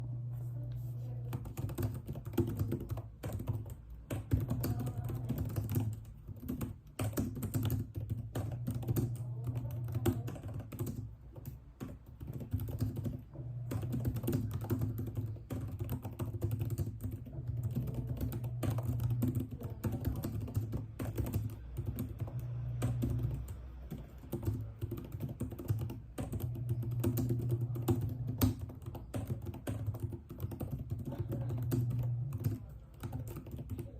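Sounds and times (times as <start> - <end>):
typing on computer keyboard: 1.2 - 33.9.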